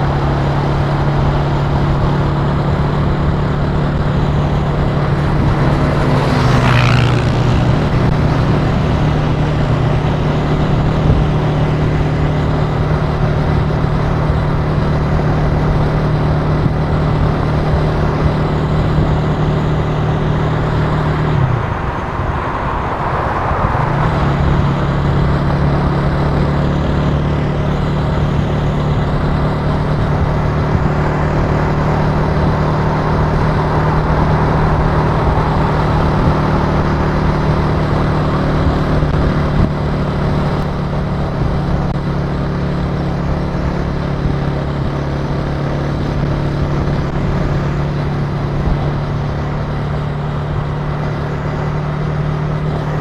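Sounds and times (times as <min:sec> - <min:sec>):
motorcycle engine running: 0:00.0 - 0:53.0
road noise: 0:00.0 - 0:53.0
wind: 0:00.0 - 0:53.0.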